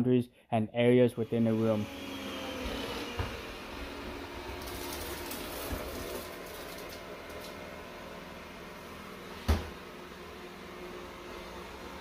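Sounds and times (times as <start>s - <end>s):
robot vacuum motor hum: 1.2s - 12.0s.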